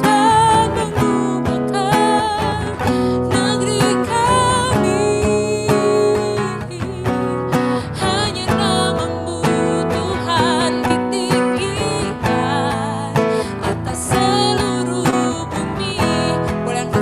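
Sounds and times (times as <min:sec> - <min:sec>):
person singing with vibrato: 0:00.0 - 0:17.0
strummed acoustic guitar: 0:00.0 - 0:17.0.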